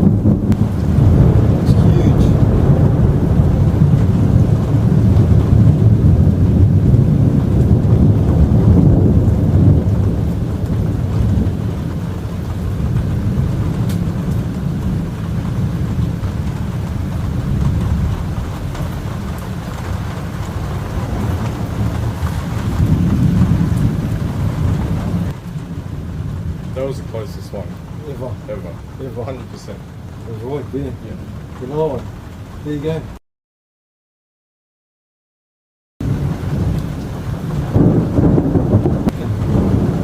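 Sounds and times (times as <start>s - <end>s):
rolling thunder: 0.0s - 33.2s, 36.0s - 40.0s.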